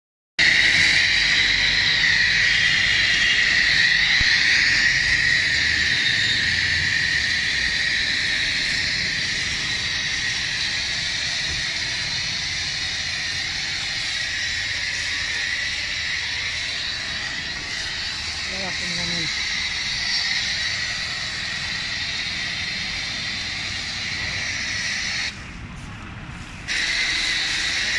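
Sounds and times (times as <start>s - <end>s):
pressure washer jet hissing: 0.4s - 27.9s.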